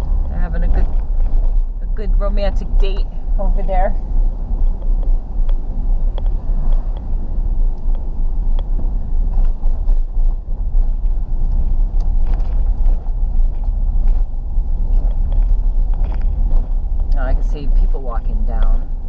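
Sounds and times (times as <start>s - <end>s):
car cabin road noise: 0.0s - 19.0s.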